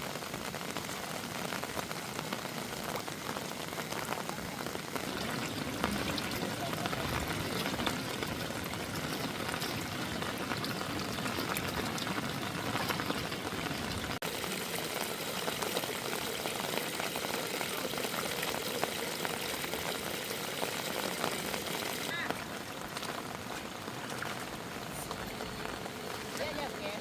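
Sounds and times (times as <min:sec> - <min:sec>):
heavy rain pattering: 0:00.0 - 0:27.0.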